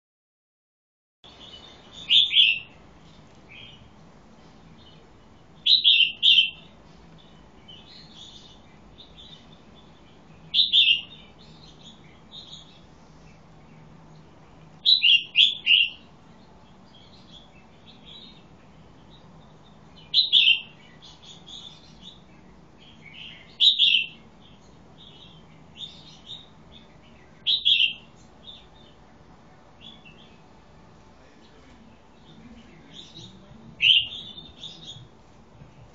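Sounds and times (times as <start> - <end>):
soft bird chirps: 1.2 - 30.6, 31.2 - 35.2
bird singing loud phrases: 1.3 - 4.0, 4.6 - 30.5, 31.2 - 35.2.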